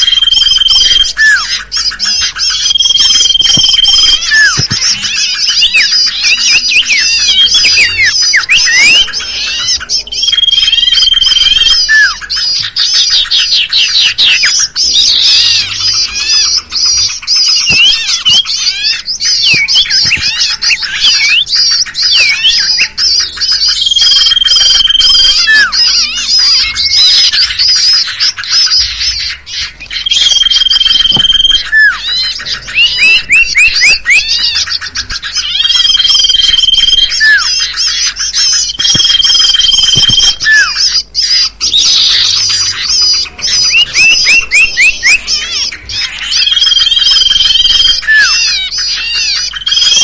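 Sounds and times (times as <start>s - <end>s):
bird whistle calls: 0.0s - 50.0s
high-pitched bird chattering: 0.0s - 50.0s.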